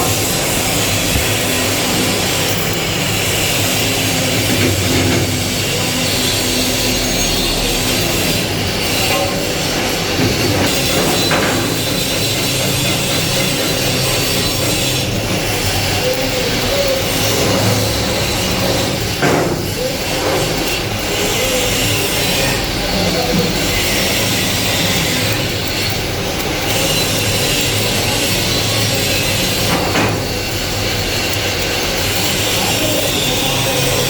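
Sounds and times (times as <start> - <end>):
welding arc sizzling: 0.0 - 34.0
welding machine hum: 0.0 - 34.0.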